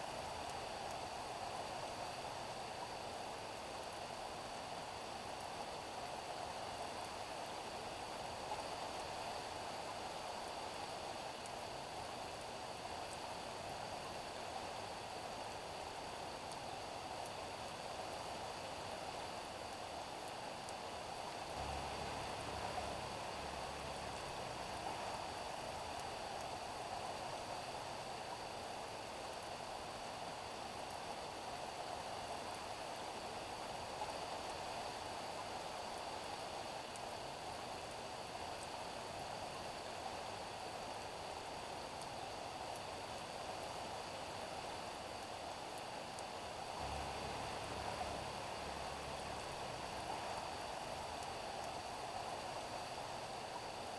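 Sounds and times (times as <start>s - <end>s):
rain falling on a street: 0.1s - 53.9s.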